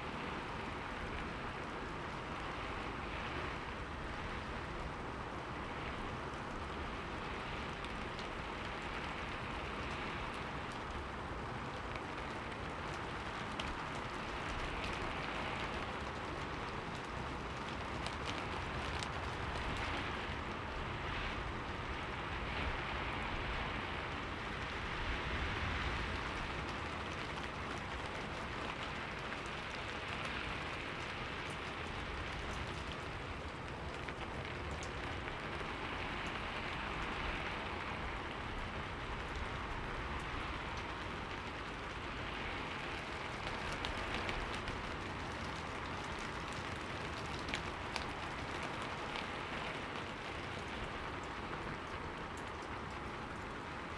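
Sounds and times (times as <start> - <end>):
rain on a window: 0.0 - 53.9.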